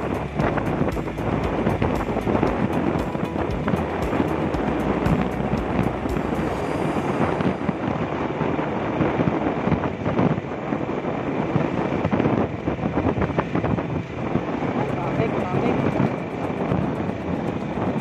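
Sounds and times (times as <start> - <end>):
vehicle engine: 0.0 - 11.3, 13.2 - 18.0
wind rushing over microphone: 0.0 - 18.0.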